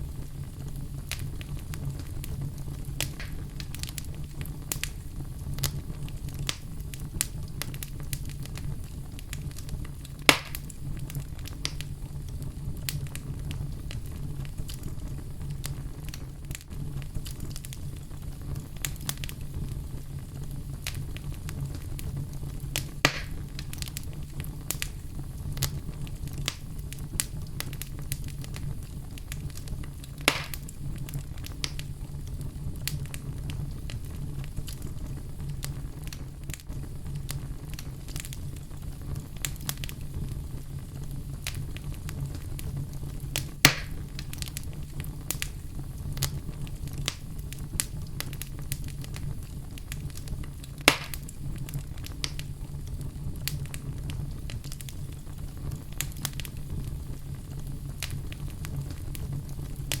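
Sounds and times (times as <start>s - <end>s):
fire crackling and popping: 0.0s - 60.0s
fire rumbling: 0.0s - 60.0s.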